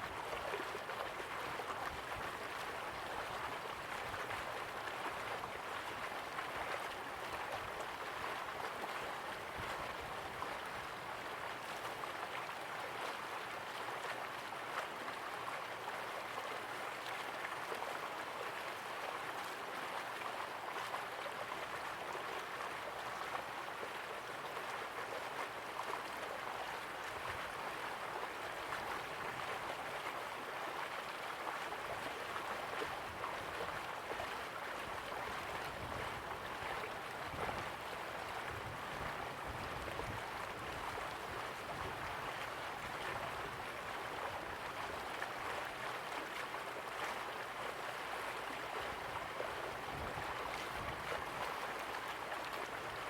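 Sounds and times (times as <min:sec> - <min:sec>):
river water rushing and gurgling: 0:00.0 - 0:53.0.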